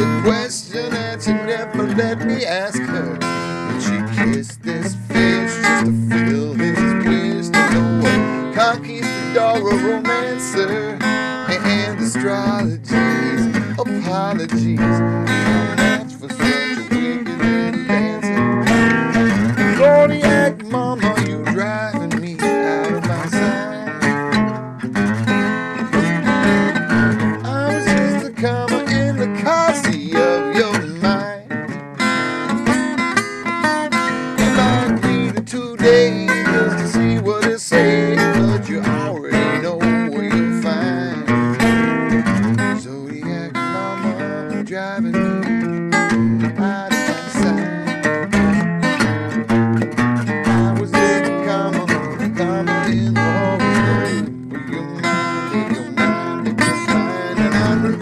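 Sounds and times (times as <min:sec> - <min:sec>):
man singing: 0:00.0 - 0:24.5, 0:25.9 - 0:32.8, 0:34.0 - 0:48.2, 0:50.2 - 0:58.0
strummed acoustic guitar: 0:00.0 - 0:58.0.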